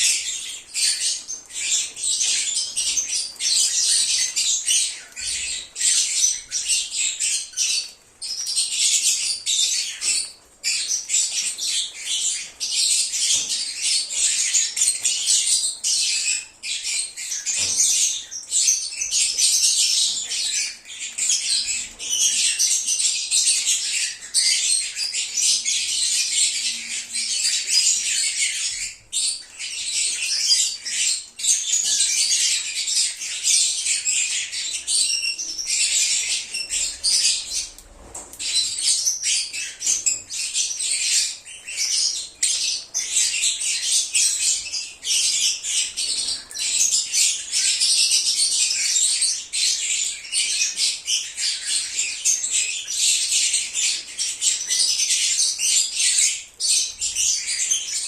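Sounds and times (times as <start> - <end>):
lovebirds chirping and squawking: 0.0 - 58.0.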